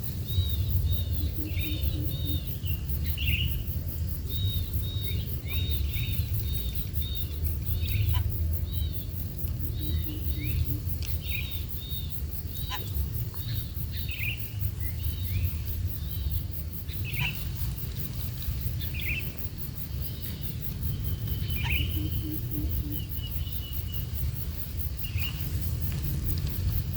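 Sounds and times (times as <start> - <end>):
steady low rumble: 0.0 - 26.9
bird chirping: 0.1 - 24.4.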